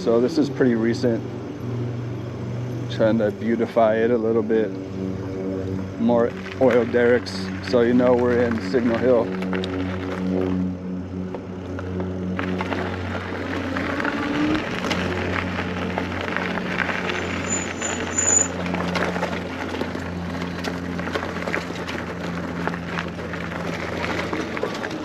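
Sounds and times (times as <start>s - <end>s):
low motor hum: 0.0s - 25.0s
wind: 0.0s - 25.0s
tyre noise: 2.9s - 25.0s.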